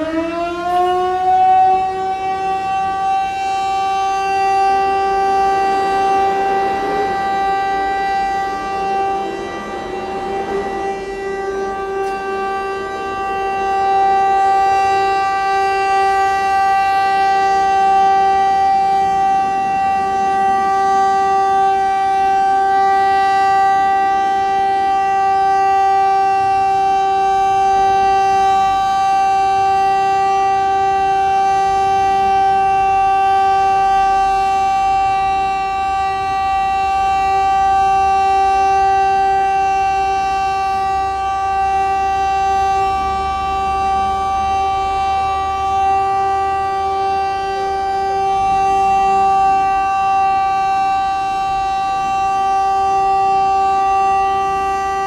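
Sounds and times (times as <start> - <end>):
low traffic rumble: 0.0 - 55.0
warning siren steady tone: 0.0 - 55.0.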